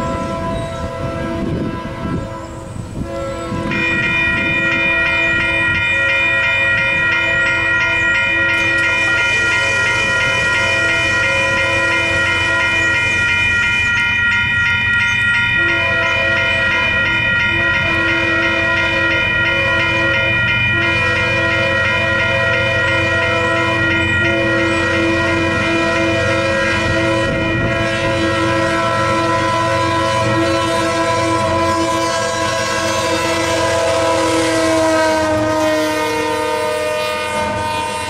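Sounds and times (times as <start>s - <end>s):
crossing bells ringing: 0.0s - 38.0s
lower bell tone: 1.8s - 38.0s.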